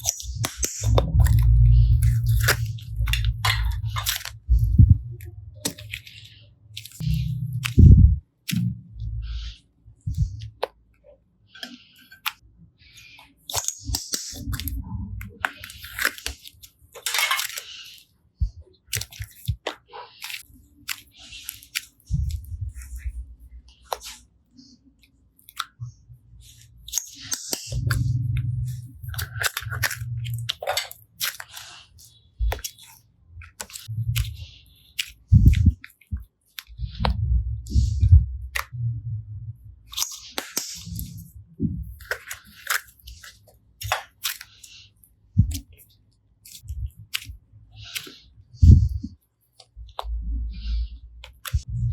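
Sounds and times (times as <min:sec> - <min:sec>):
slime squishing: 0:00.0 - 0:51.9.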